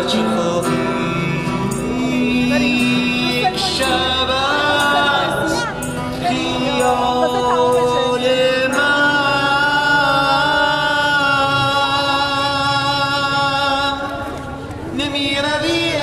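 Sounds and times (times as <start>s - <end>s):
man singing a long note: 0.0s - 14.2s
acoustic guitar: 0.0s - 16.0s.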